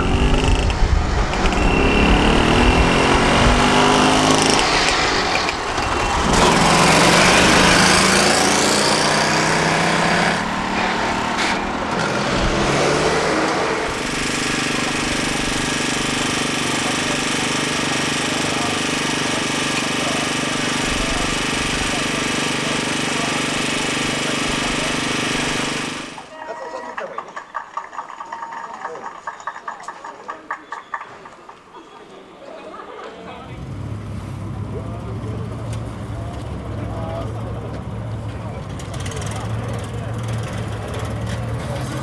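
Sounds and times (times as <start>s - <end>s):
v-twin engine running steadily: 0.0s - 12.8s, 13.5s - 26.3s, 33.4s - 42.0s
small truck engine revving: 0.0s - 26.3s, 33.2s - 42.0s.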